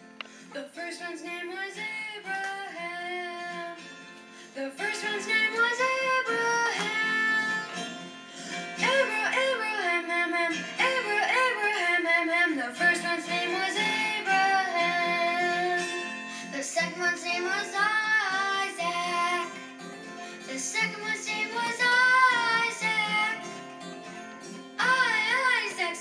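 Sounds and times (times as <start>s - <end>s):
plucked guitar: 0.0s - 26.0s
person singing: 0.5s - 3.8s, 4.5s - 7.8s, 8.5s - 19.6s, 20.3s - 23.7s, 24.8s - 26.0s.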